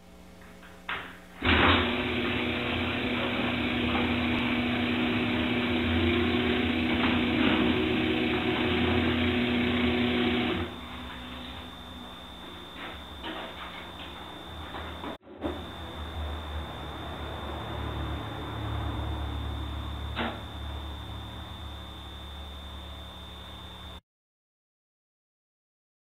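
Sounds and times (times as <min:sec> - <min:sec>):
electric motor humming: 0:01.4 - 0:24.0.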